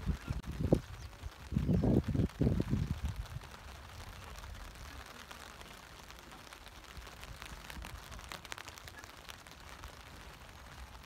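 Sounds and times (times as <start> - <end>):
rain on tent fabric: 0.0 - 11.0.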